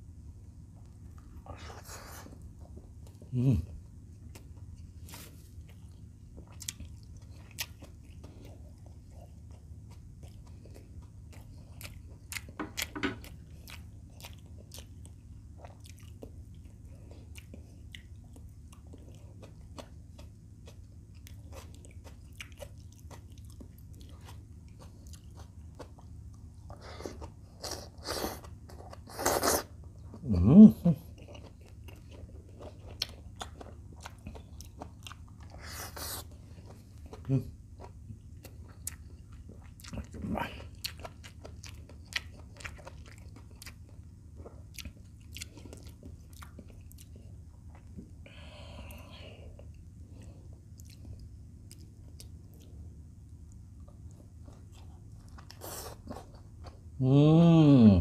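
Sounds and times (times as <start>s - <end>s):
low room hum: 0.0s - 58.0s
chewing and mouth sounds: 0.8s - 56.9s.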